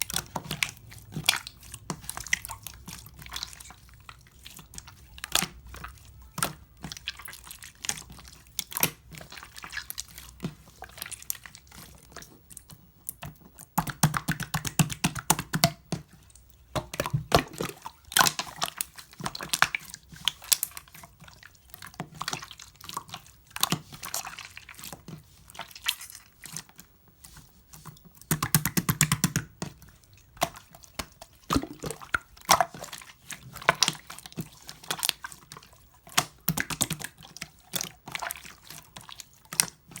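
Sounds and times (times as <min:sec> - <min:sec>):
slime squelching by hand: 0:00.0 - 0:40.0.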